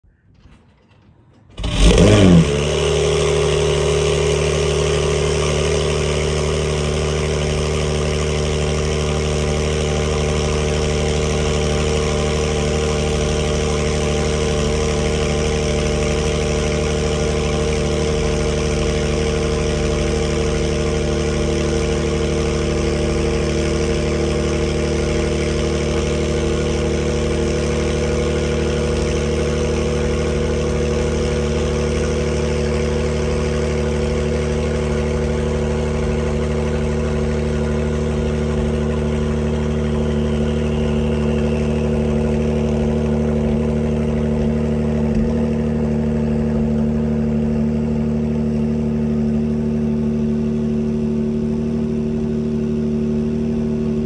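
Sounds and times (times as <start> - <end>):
car engine starting and idling: 0.4 - 54.0.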